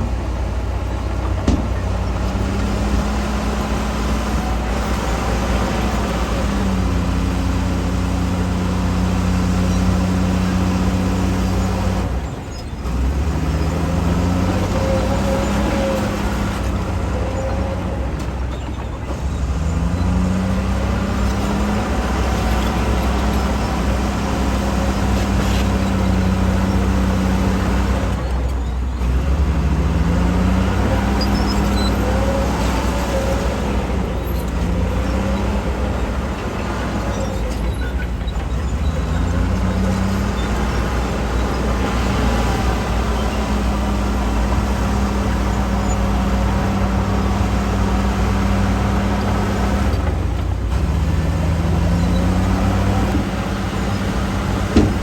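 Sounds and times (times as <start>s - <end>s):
heavy machine engine under load: 0.0s - 55.0s.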